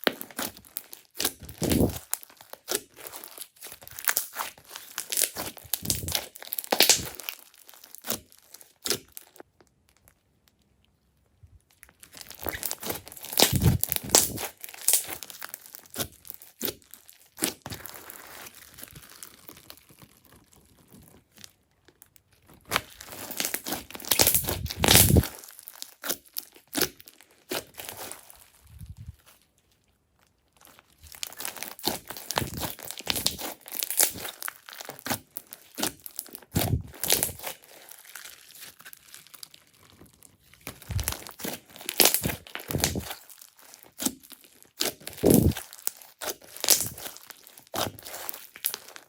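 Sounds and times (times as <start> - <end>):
slime squeezed with wet crackling: 0.0 - 49.0.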